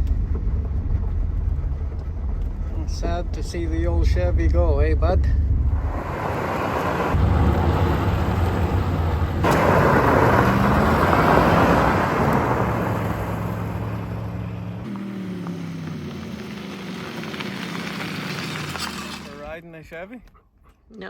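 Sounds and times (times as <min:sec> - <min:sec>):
truck engine humming: 0:00.0 - 0:19.4
road and wind noise: 0:00.0 - 0:19.6.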